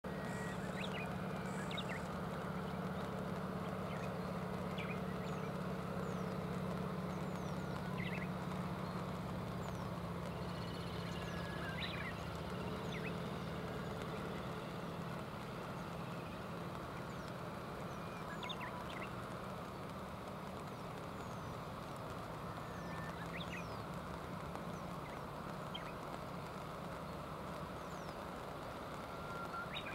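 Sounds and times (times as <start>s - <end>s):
low steady hum: 0.0s - 29.9s
river water rushing: 0.1s - 29.9s.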